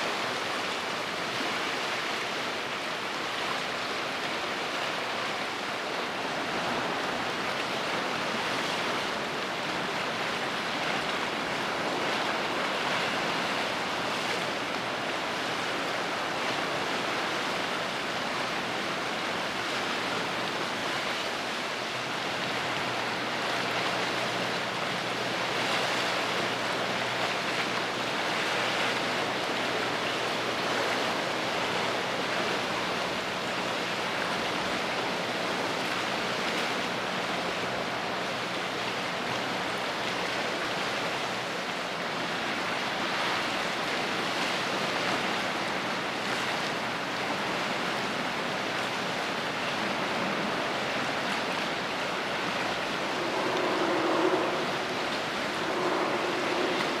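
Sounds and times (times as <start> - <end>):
rushing water: 0.0 - 57.0
wind: 0.0 - 57.0.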